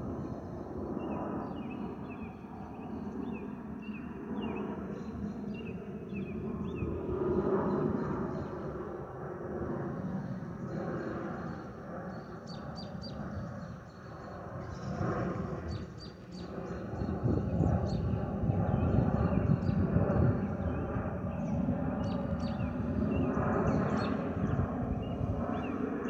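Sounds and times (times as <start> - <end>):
jet aircraft passing overhead: 0.0 - 26.0.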